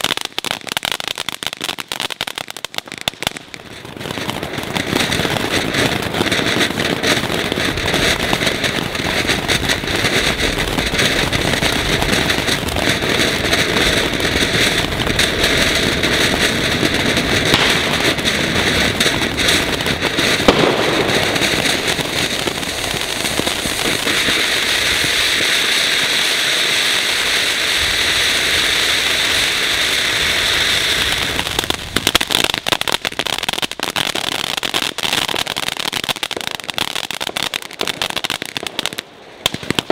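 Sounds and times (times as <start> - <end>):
firework crackling and pops: 0.0 - 39.9
firework fountain hissing: 0.0 - 39.9.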